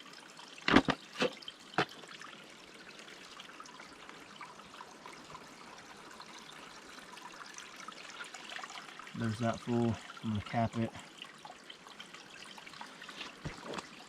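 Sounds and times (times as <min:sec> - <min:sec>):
water trickling into pouch: 0:00.4 - 0:10.5, 0:11.1 - 0:14.0.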